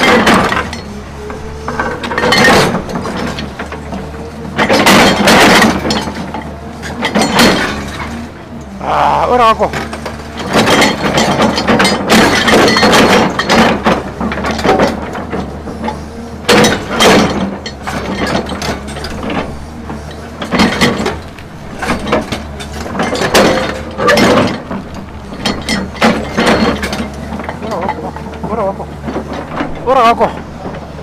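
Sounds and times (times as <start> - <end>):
excavator engine hum: 0.0 - 31.0
excavator scraping frozen ground: 0.0 - 31.0.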